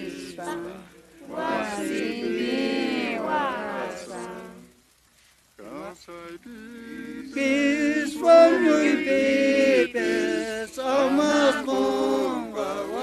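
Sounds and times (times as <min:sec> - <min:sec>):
group singing a hymn: 0:00.0 - 0:04.8, 0:05.6 - 0:13.0.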